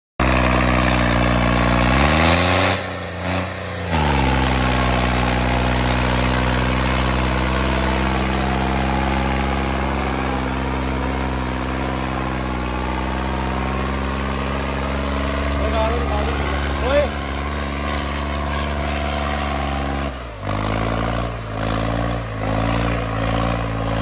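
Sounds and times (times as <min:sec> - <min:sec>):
tractor diesel engine running: 0:00.2 - 0:24.0.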